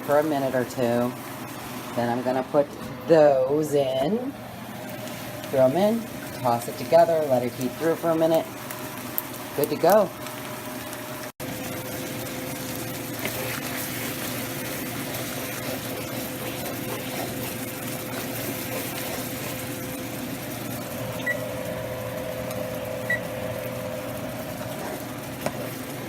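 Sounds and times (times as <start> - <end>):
exhaust fan humming: 0.0 - 26.0
chicken frying in a pan: 4.5 - 26.0.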